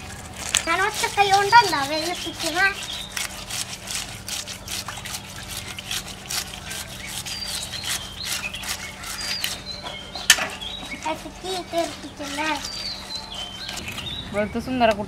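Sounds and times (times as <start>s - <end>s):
knife scraping fish scales: 0.0s - 14.0s.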